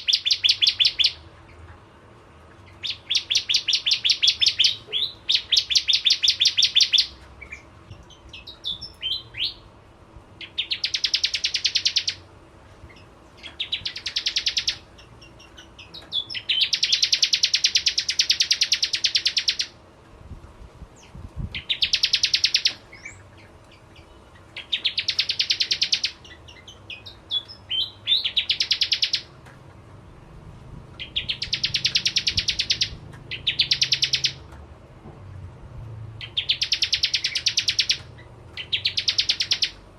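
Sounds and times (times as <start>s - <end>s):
bird buzzy trills: 0.0s - 1.6s, 2.4s - 19.8s, 20.9s - 29.4s, 30.9s - 34.6s, 36.2s - 39.9s.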